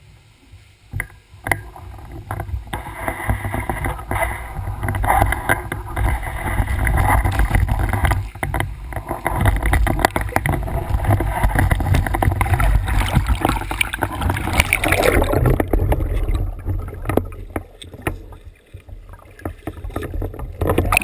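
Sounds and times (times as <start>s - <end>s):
wind rumble on microphone: 1.0s - 21.0s
bike rattling: 1.5s - 21.0s.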